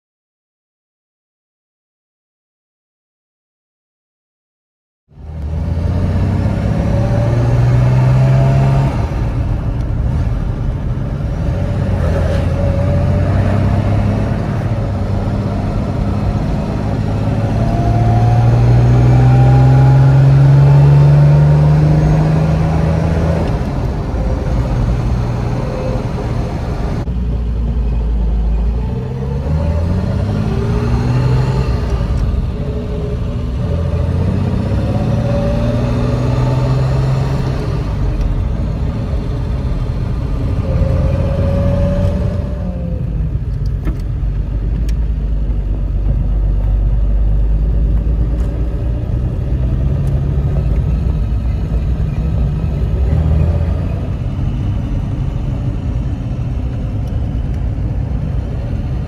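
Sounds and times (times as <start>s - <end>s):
car engine accelerating: 5.1s - 59.0s
road noise: 5.1s - 59.0s.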